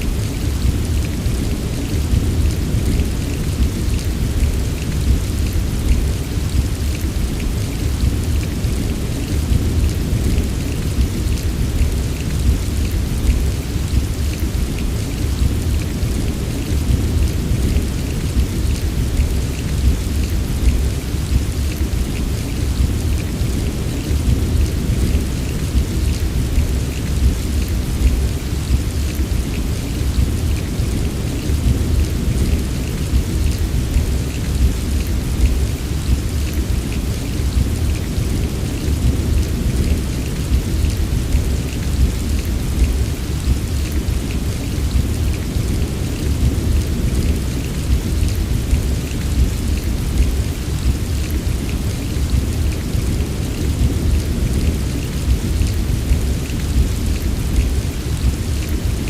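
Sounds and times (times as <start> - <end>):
heavy rain: 0.0 - 59.0
rain drops ticking: 0.0 - 59.0.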